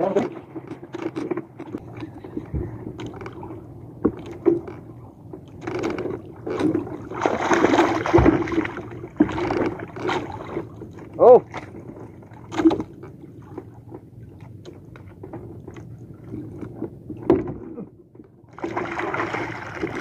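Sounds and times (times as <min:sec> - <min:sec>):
water splashing: 0:00.0 - 0:17.5, 0:18.5 - 0:20.0
steady low hum: 0:00.0 - 0:20.0.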